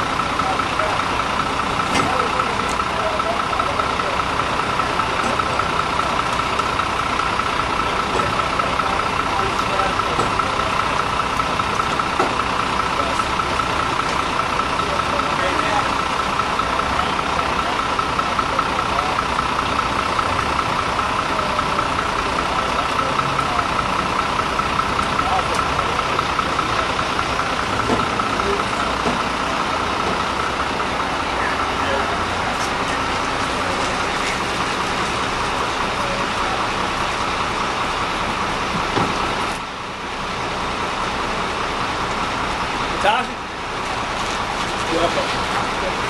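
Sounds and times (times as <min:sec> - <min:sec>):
street traffic drone: 0:00.0 - 0:46.0
vehicle engine idling: 0:00.0 - 0:46.0.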